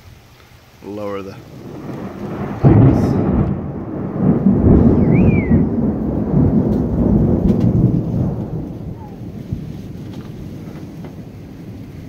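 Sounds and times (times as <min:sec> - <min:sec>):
thunder crack and rumble: 0:01.4 - 0:12.0.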